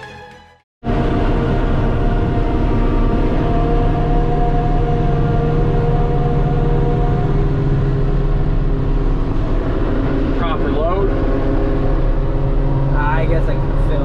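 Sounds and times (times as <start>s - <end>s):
forage harvester engine: 0.8s - 14.0s
high steady whine: 0.8s - 14.0s.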